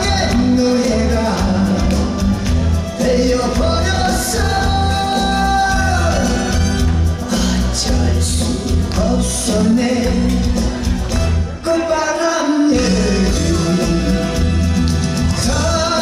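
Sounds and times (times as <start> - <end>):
man singing into microphone: 0.0 - 10.8, 11.5 - 16.0
backing track with bass beat: 0.0 - 11.8, 12.8 - 16.0.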